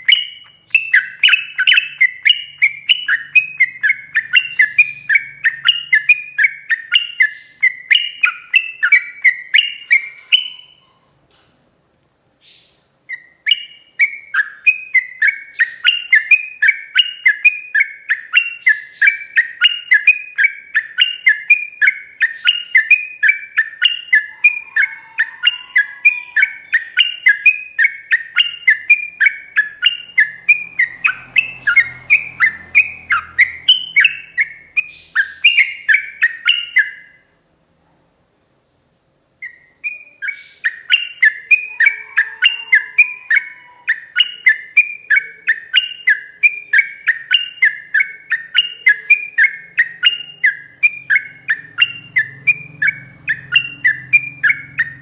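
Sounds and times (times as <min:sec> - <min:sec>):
bird singing rapid chirps: 0:00.0 - 0:11.0, 0:12.4 - 0:37.3, 0:39.4 - 0:55.0.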